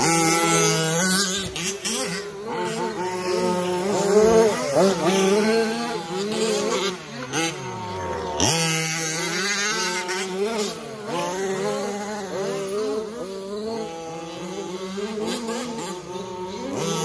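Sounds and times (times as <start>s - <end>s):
rc truck motors buzzing and whining: 0.0s - 17.0s.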